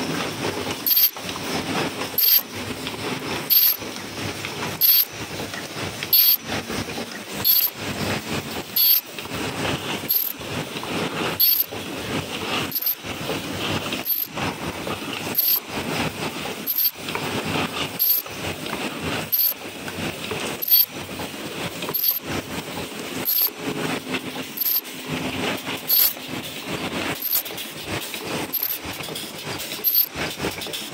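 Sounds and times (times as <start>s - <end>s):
machine clattering: 0.0s - 30.9s.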